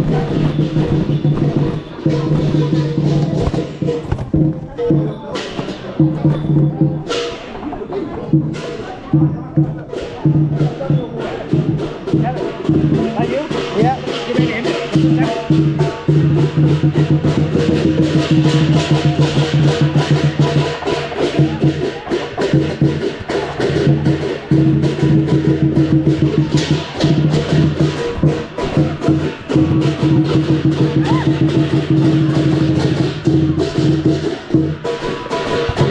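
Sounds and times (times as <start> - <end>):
large drum beaten fast: 0.0 - 7.5, 8.1 - 35.9.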